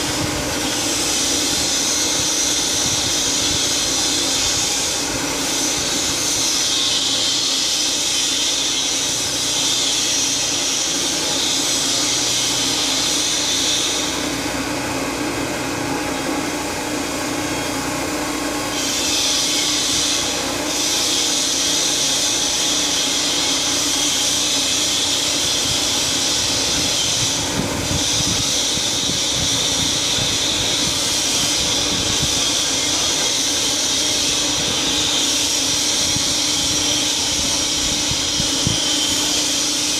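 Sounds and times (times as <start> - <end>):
mechanical hiss: 0.0 - 14.6, 18.6 - 39.9.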